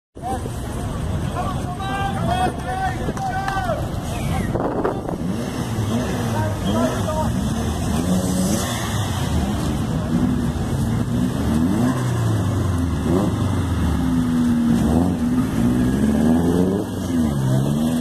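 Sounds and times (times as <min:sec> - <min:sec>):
car engines revving and accelerating: 0:02.2 - 0:18.0.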